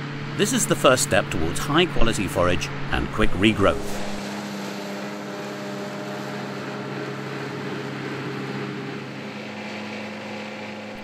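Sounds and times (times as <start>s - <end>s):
mower discs whirring: 0.0s - 11.0s
tractor engine hum: 0.0s - 11.0s.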